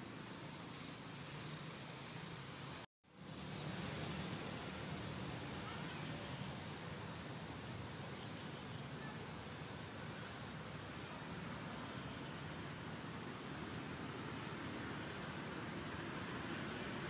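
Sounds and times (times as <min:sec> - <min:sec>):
high insect hiss: 0:00.0 - 0:17.0
insects chirping in pulses: 0:00.0 - 0:17.0.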